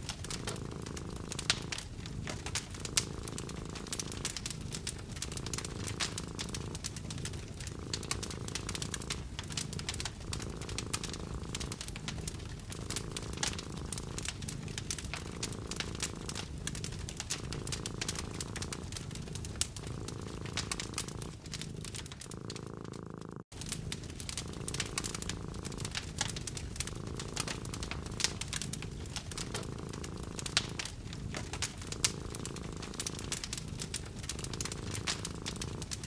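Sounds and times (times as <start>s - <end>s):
cat purring: 0.0s - 36.0s
wood fire crackling: 0.0s - 36.0s.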